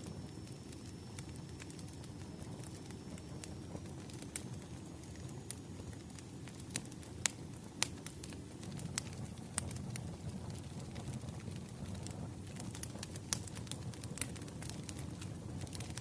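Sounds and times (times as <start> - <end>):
low rumble of burning logs: 0.0 - 16.0
wood fire crackling and popping: 0.0 - 16.0.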